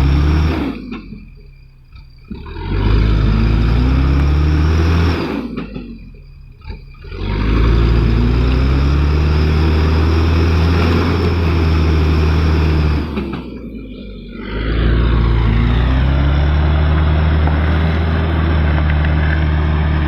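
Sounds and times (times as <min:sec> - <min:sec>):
diesel truck engine revving hard: 0:00.0 - 0:01.2, 0:01.9 - 0:06.0, 0:06.6 - 0:20.0.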